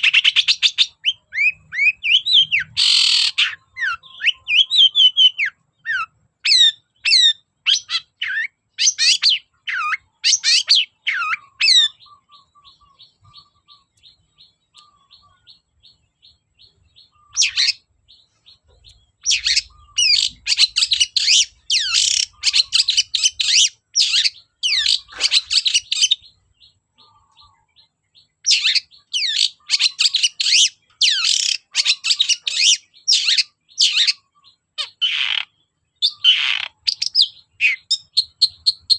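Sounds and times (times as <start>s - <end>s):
shrike singing and chattering: 0.0s - 38.9s.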